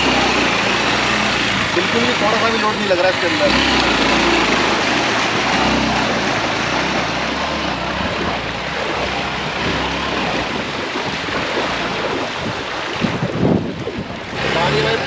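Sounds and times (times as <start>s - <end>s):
motorcycle engine: 0.0s - 15.0s
wheels splashing through water: 0.0s - 15.0s
wind buffeting microphone: 0.0s - 15.0s.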